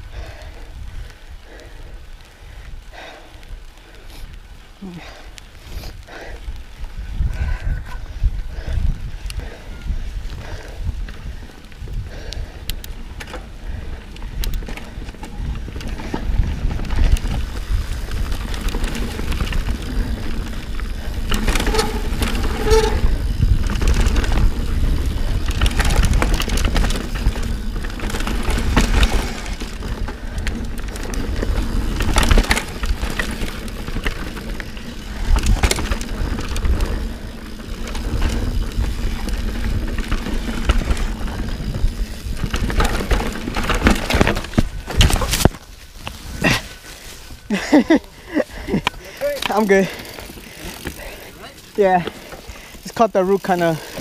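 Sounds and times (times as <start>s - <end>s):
bike tyres rumbling on dirt: 0.0s - 54.0s
bike rattling and knocking: 7.0s - 46.8s, 47.4s - 54.0s.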